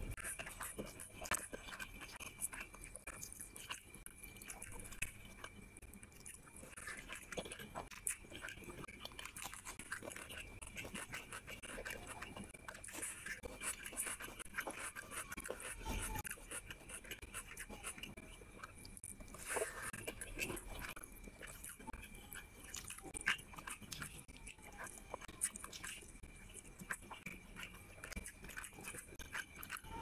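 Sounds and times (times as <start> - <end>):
person chewing wetly: 0.0 - 30.0.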